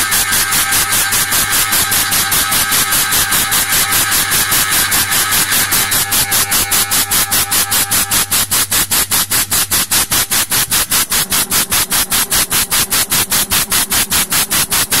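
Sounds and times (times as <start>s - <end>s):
router rasping through wood: 0.0s - 15.0s.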